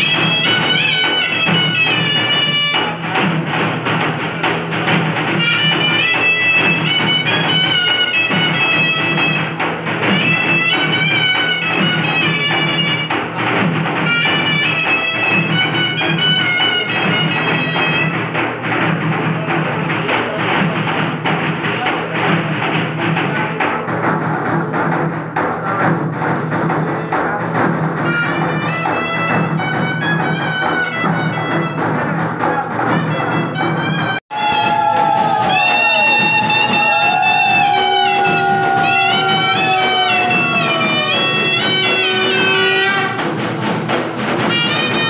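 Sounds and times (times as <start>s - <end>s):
steady drum beat: 0.0s - 45.0s.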